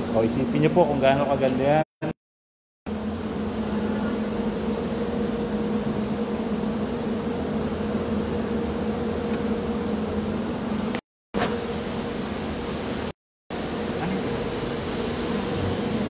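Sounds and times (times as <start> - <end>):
mechanical hum with two tones: 0.0 - 2.2, 2.9 - 16.0.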